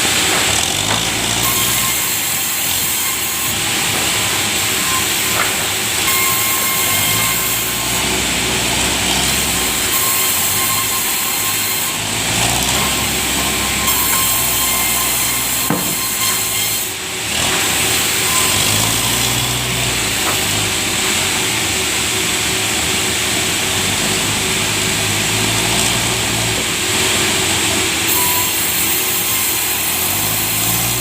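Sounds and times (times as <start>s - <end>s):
sawmill saw cutting log: 0.0s - 31.0s.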